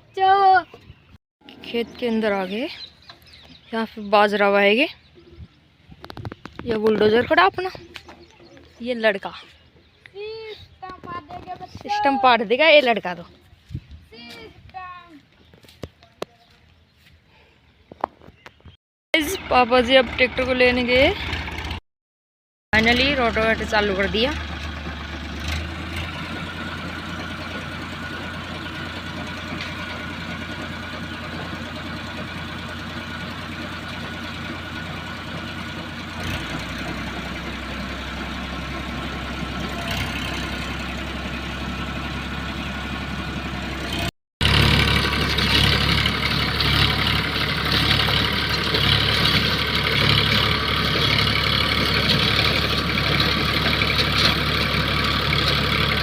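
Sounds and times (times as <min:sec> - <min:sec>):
tractor diesel engine running: 0:00.0 - 0:15.0, 0:19.2 - 0:21.8, 0:22.7 - 0:56.0.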